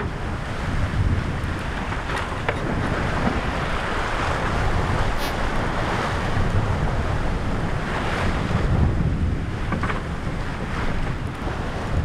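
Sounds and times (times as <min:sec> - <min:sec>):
sea water rushing past hull: 0:00.0 - 0:12.0
wind buffeting microphone: 0:00.0 - 0:12.0.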